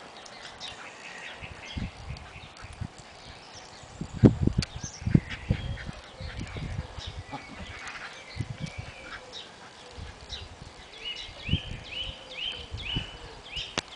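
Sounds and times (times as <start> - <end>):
small birds calling: 0.0 - 13.9.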